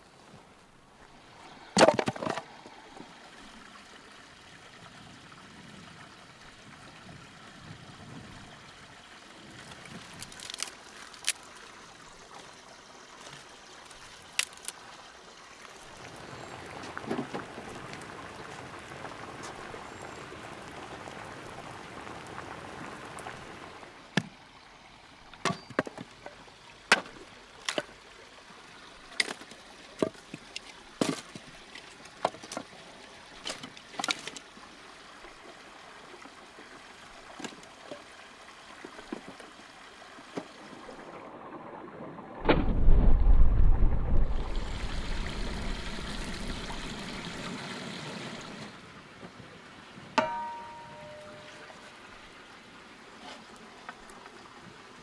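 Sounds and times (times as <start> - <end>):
water pouring and trickling: 1.0 - 48.9, 50.2 - 55.0.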